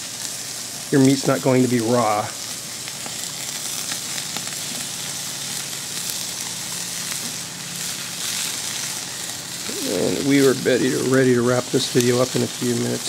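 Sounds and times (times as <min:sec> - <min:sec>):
meat sizzling on a grill: 0:00.0 - 0:13.0
small crackles of bubbling juices: 0:00.2 - 0:13.0.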